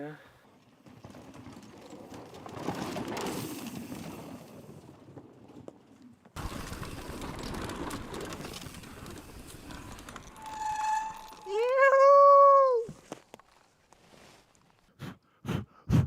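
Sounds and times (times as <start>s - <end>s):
bike tyres on dirt trail: 0.4s - 14.9s.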